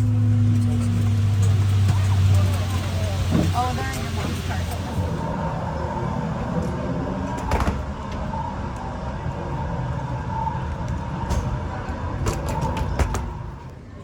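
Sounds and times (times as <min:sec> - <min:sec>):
airliner cabin hum: 0:00.0 - 0:13.7.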